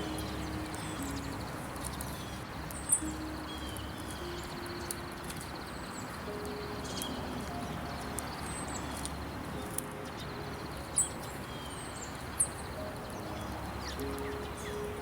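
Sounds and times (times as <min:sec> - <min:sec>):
songbirds chirping: 0:00.0 - 0:15.0
steady rushing hiss: 0:00.0 - 0:15.0.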